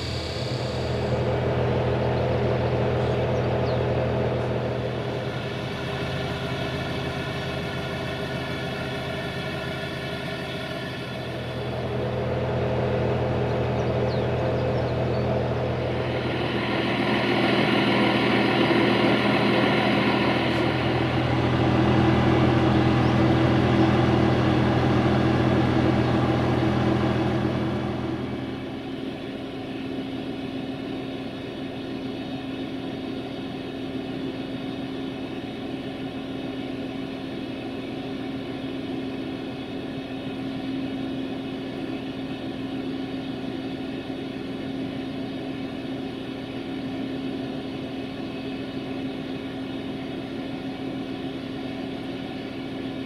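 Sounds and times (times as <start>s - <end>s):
diesel engine hum: 0.0s - 53.0s
diesel train passing: 0.0s - 53.0s.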